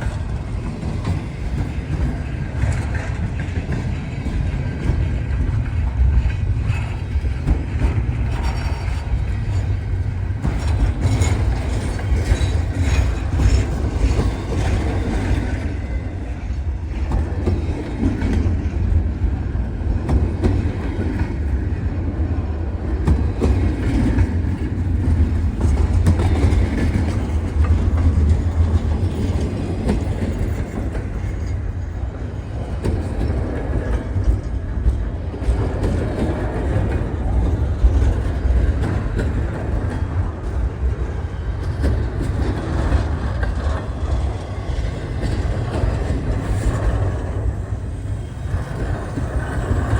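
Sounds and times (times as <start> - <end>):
freight train rumbling: 0.0 - 49.9
wheels clicking over rail joints: 0.0 - 49.9.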